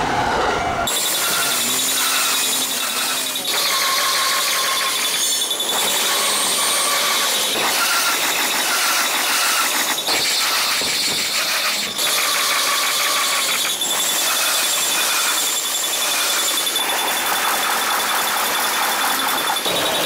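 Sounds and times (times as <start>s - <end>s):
level crossing alarm clanging: 0.9s - 20.0s.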